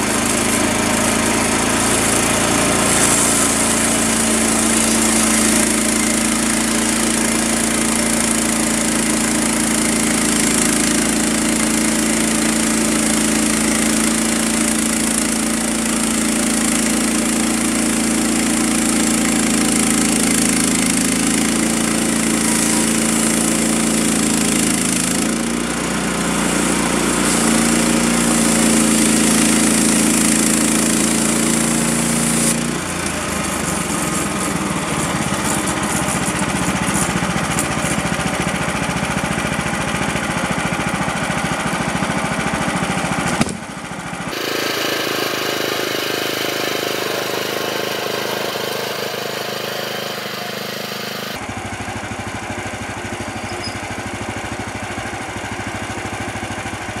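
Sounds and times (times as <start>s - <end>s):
band saw cutting log: 0.0s - 40.4s, 42.7s - 51.4s
sawmill gasoline engine running: 0.0s - 57.0s.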